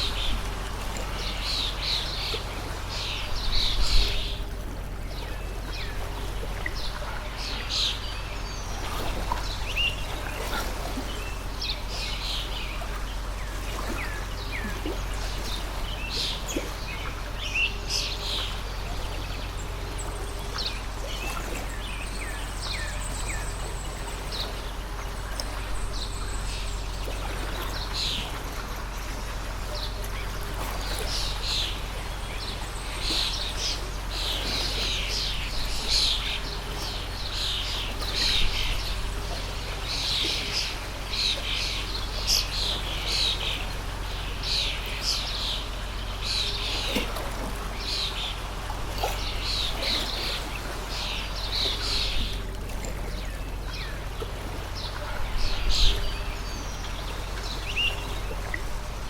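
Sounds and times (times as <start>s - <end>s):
water stream running: 0.0s - 59.0s.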